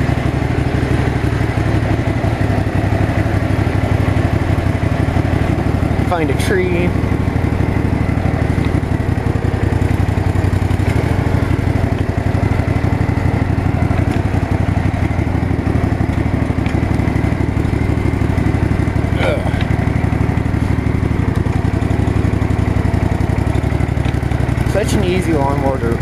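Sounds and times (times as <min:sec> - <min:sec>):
riding mower engine running: 0:00.0 - 0:26.0.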